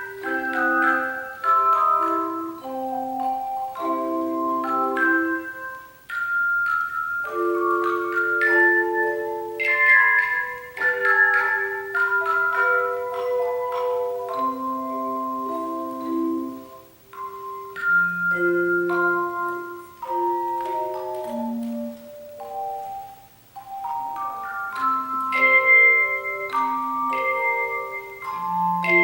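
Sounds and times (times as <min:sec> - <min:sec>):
tone chimes playing melody: 0:00.0 - 0:29.0.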